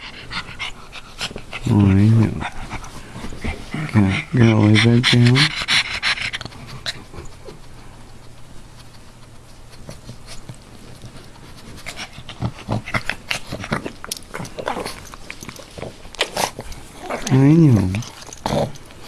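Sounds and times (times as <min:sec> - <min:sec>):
dog breathing noisily: 0:00.0 - 0:17.0
dog sniffing and snorting: 0:00.0 - 0:19.0.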